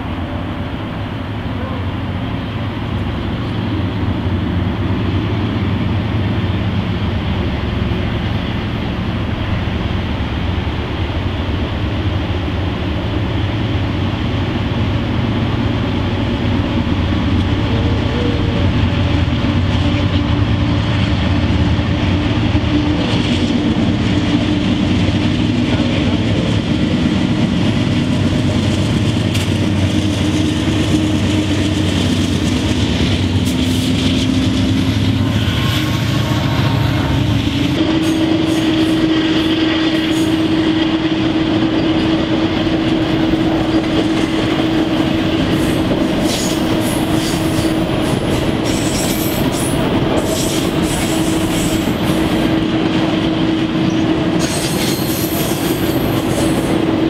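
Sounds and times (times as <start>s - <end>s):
locomotive engine drone and rumble: 0.0s - 57.0s.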